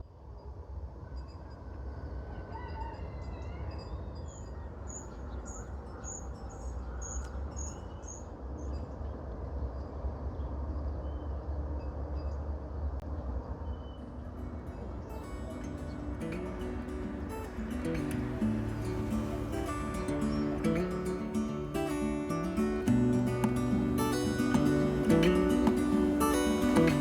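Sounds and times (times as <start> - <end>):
small birds chirping: 3.3 - 11.6, 13.4 - 27.0.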